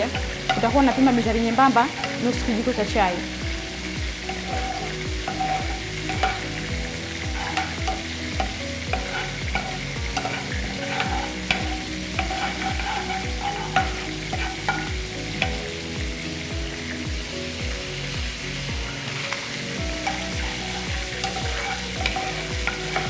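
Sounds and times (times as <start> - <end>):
spoon scraping a frying pan: 0.0 - 2.9, 4.1 - 15.8, 19.0 - 23.0
background music: 0.0 - 23.0
food sizzling: 0.0 - 23.0.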